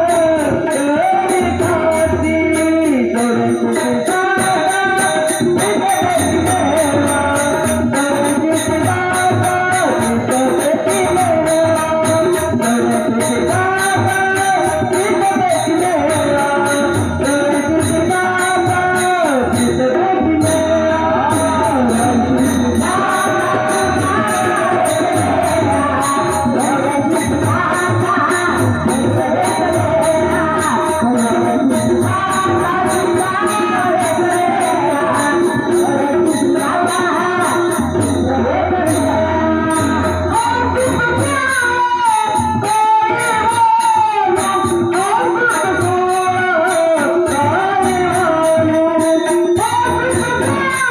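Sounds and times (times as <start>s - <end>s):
jingling percussion and drum: 0.0s - 50.9s
woman singing: 0.0s - 50.9s.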